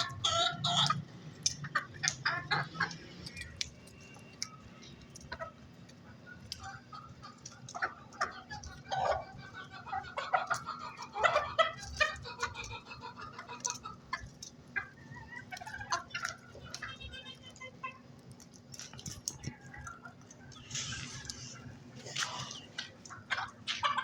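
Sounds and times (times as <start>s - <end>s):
hen clucking: 0.0s - 24.0s.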